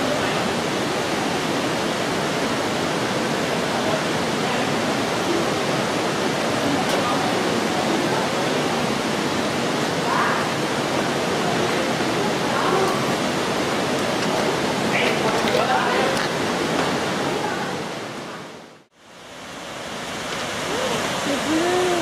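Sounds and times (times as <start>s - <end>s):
falling water rushing: 0.0s - 22.0s.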